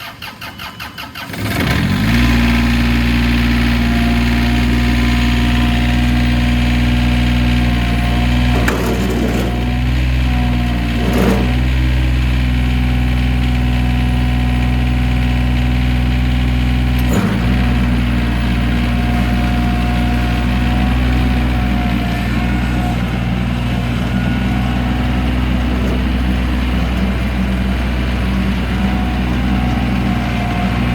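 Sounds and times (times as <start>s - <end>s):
starter cranking diesel engine: 0.0s - 30.9s
diesel engine idling: 1.8s - 30.9s.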